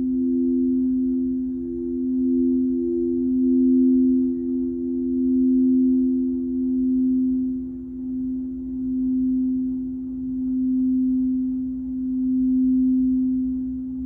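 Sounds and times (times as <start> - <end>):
crystal singing bowls tone: 0.0 - 14.0.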